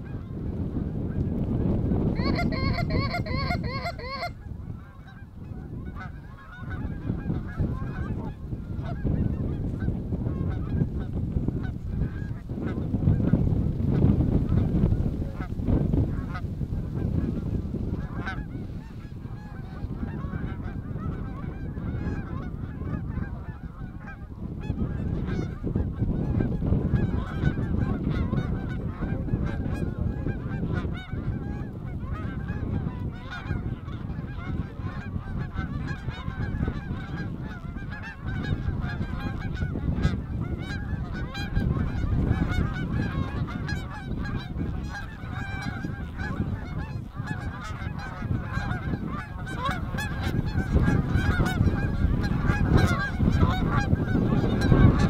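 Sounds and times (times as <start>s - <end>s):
wind on microphone: 0.0s - 55.0s
geese honking: 2.1s - 12.9s, 14.5s - 15.5s, 16.1s - 55.0s.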